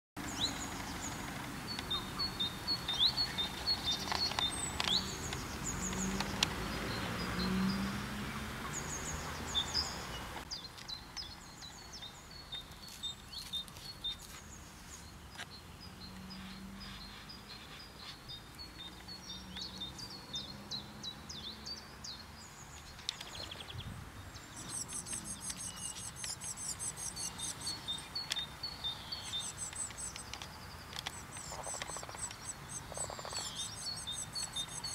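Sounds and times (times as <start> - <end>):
songbirds chirping and singing: 0.2 - 34.9.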